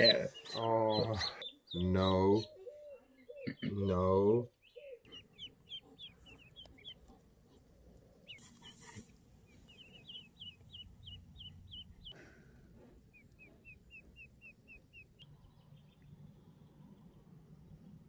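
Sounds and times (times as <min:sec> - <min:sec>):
ducklings peeping: 0:00.0 - 0:16.2.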